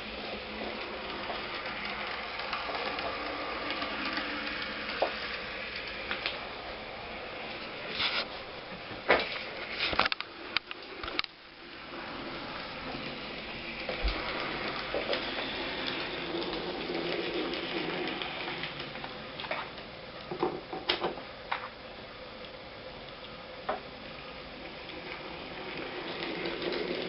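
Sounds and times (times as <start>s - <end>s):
model train whirring: 0.0s - 19.9s, 24.0s - 27.0s.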